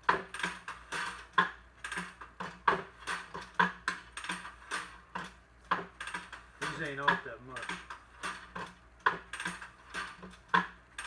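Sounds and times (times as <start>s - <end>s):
sharp metallic clicks and clacks: 0.2s - 10.7s.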